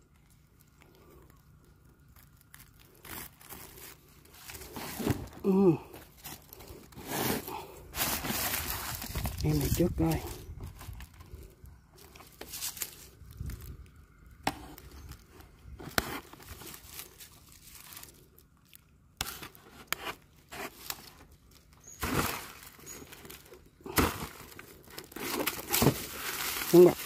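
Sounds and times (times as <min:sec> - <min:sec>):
rustling and crinkling handling noise: 0:00.0 - 0:27.0.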